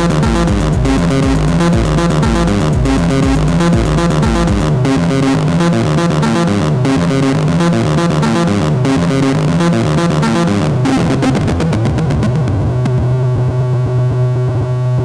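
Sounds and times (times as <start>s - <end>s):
deep low pulse: 0.0s - 15.0s
synthesizer bass line: 0.0s - 15.0s.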